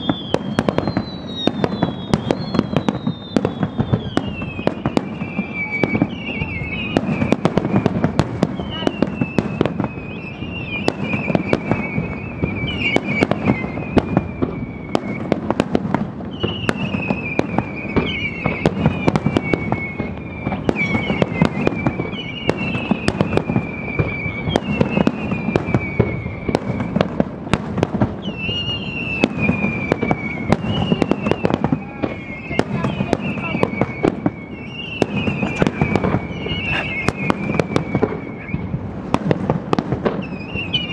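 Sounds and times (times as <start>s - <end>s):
falling firework whistles: 0.0s - 40.9s
fireworks bangs and cracks: 0.0s - 40.9s.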